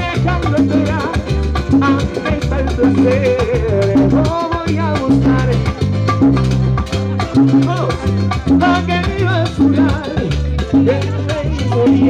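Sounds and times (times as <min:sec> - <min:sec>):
latin percussion: 0:00.0 - 0:12.0
repeating bass line: 0:00.0 - 0:12.0
salsa dance orchestra: 0:00.0 - 0:12.0.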